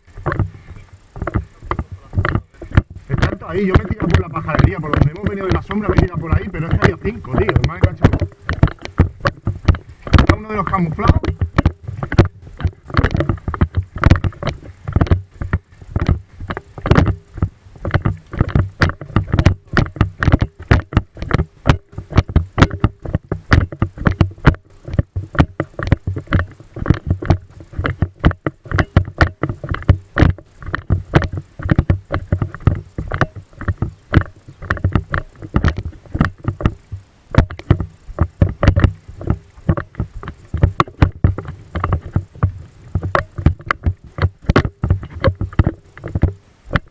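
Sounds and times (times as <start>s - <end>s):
gear knocking against camera: 0.0s - 46.9s.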